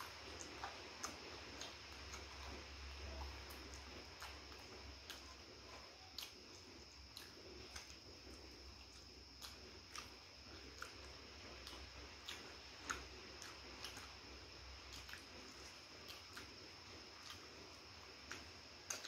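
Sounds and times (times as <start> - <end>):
chewing crispy fried chicken: 0.0 - 19.0
faint high-pitched whine: 0.0 - 19.0.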